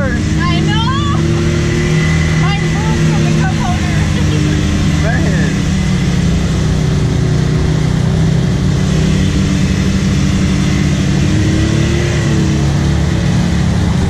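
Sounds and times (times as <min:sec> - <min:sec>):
engine running: 0:00.0 - 0:14.0
water rushing and splashing: 0:00.0 - 0:14.0.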